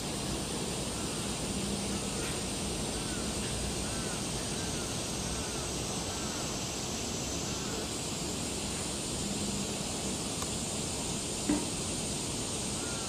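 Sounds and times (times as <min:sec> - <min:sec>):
high steady hiss: 0:00.0 - 0:13.0.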